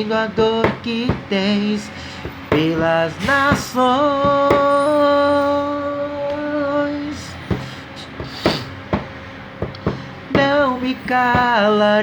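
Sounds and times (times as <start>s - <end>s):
person singing long note: 0.0s - 8.6s, 9.8s - 12.0s.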